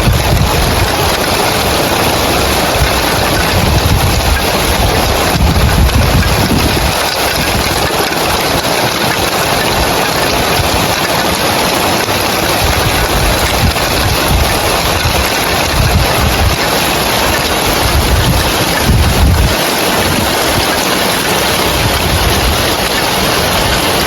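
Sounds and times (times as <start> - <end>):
heavy rain on roof tiles: 0.0 - 24.0.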